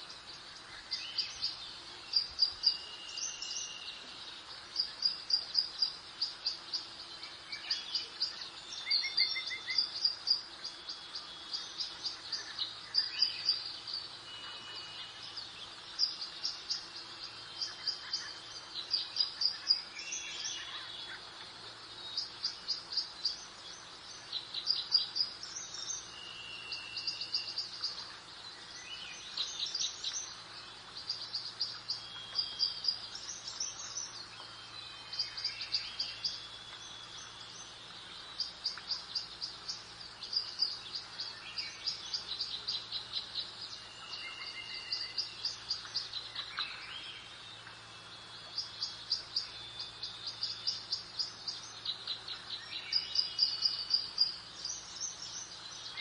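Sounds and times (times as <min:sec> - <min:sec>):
faint background hiss: 0:00.0 - 0:56.0
songbirds trilling and chirping: 0:00.0 - 0:56.0.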